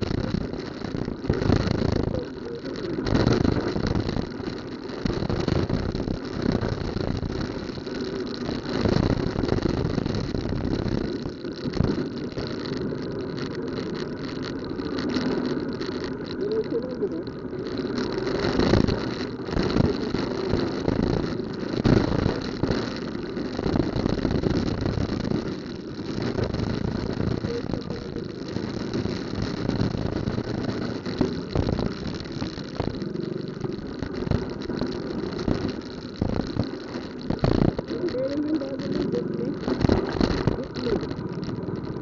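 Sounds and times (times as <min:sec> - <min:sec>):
car and motorcycle engines idling: 0:00.0 - 0:42.0.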